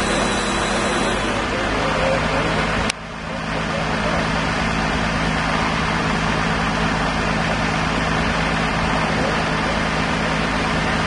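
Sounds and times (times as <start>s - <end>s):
crane diesel engine running: 0.0s - 11.0s.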